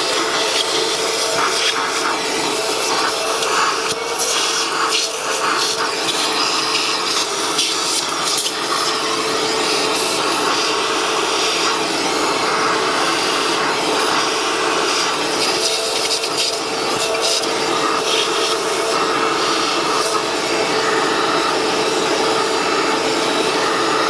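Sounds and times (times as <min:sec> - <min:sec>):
vacuum cleaner running: 0:00.0 - 0:24.0
vacuum nozzle scraping: 0:00.0 - 0:24.0.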